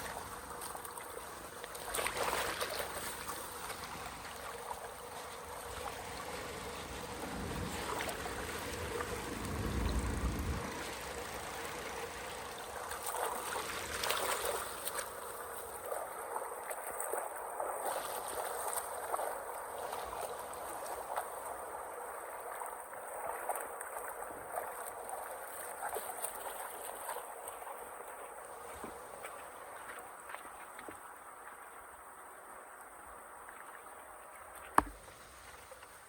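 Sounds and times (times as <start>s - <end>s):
small water splashes: 0.0s - 36.0s.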